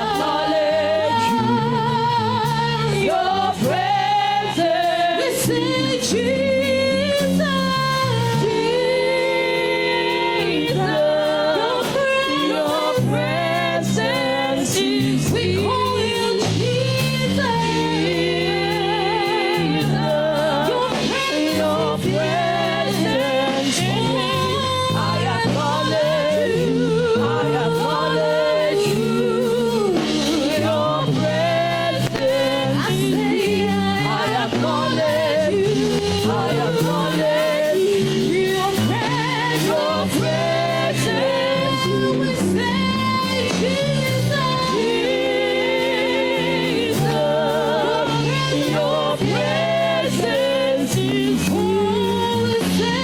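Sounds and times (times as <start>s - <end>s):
keyboard and band chords: 0.0s - 53.0s
voices singing with vibrato: 0.0s - 53.0s.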